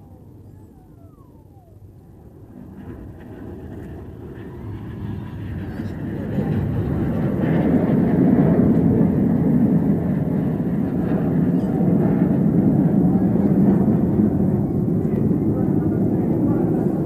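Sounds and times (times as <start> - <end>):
aircraft engine rumble: 0.0 - 17.0.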